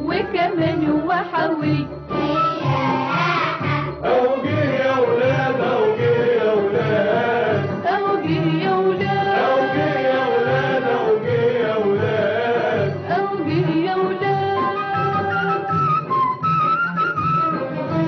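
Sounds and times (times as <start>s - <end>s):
festive song with beat: 0.0s - 18.0s.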